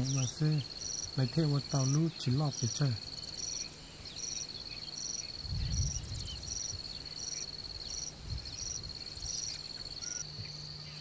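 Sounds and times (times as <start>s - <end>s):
high insect chirp: 0.0s - 11.0s
insects trilling: 0.0s - 11.0s.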